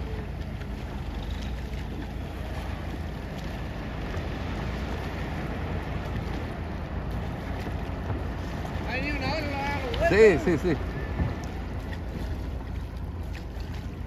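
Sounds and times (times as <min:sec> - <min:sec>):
sea waves and surf: 0:00.0 - 0:14.0
wind buffeting microphone: 0:00.0 - 0:14.0.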